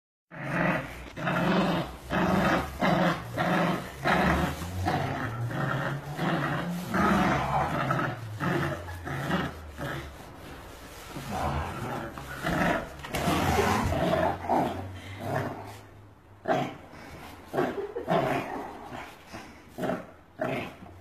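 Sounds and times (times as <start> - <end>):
dogs play-growling: 0.3 - 21.0.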